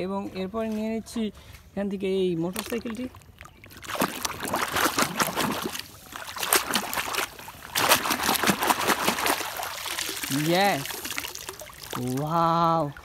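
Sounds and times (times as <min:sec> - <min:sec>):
water splashing and sloshing: 0:02.1 - 0:13.0.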